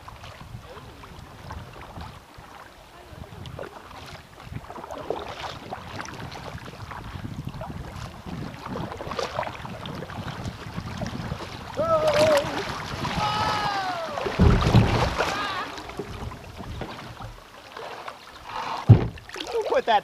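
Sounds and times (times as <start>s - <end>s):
wind on microphone: 0.0s - 17.4s
paddle splashing in water: 0.0s - 20.0s
water sloshing along hull: 0.0s - 20.0s.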